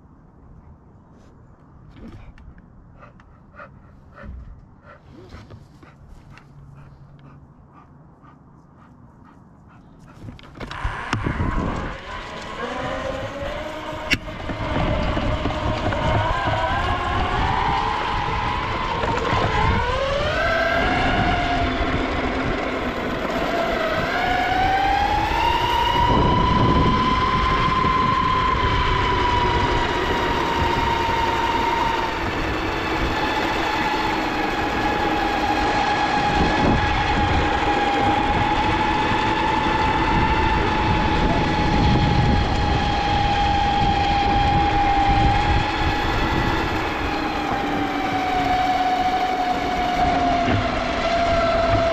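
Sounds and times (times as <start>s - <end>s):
wheels rumbling on rough asphalt: 9.2s - 51.9s
electric skateboard motors whining: 10.2s - 51.9s.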